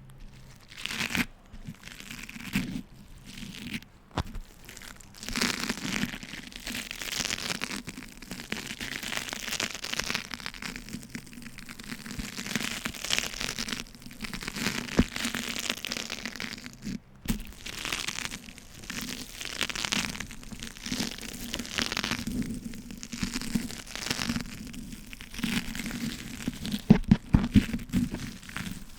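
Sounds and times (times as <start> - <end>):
wax wrap crinkling: 0.0 - 28.9.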